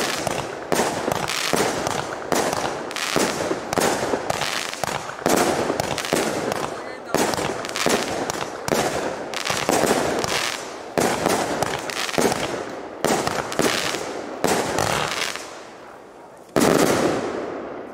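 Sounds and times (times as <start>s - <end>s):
fireworks crackling: 0.0s - 17.9s.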